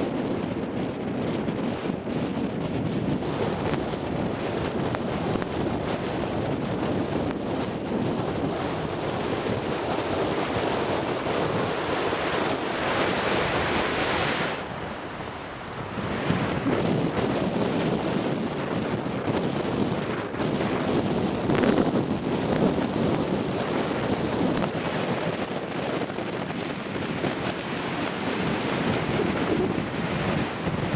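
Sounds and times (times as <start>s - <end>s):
gusty wind on microphone: 0.0s - 30.9s.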